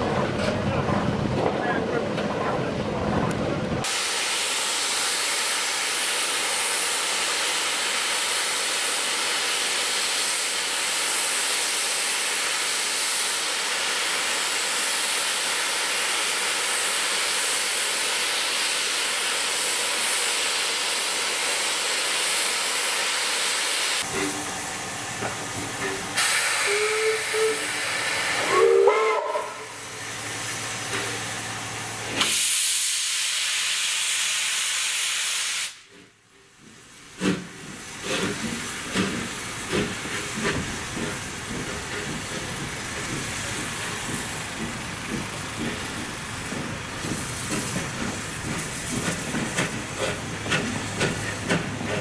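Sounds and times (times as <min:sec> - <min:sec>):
steam locomotive hissing: 0:03.8 - 0:52.0.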